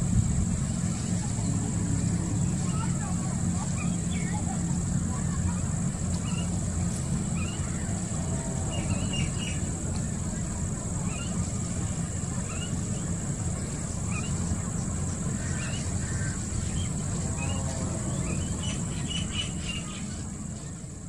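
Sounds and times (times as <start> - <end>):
low rumble: 0.0 - 21.0
birds chirping: 0.5 - 21.0.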